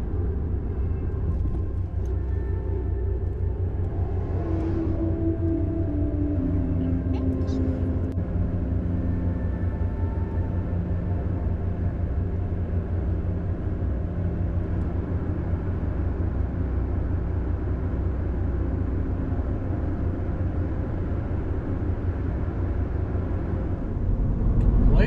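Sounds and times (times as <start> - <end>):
road and engine noise in cab: 0.0 - 25.0.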